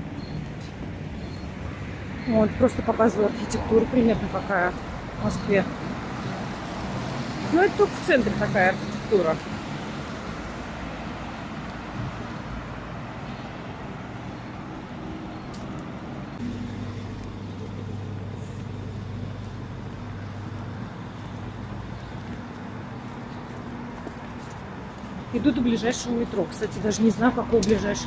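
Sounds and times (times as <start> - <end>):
cars driving past: 0.0 - 28.0
low vehicle engine hum: 0.0 - 28.0.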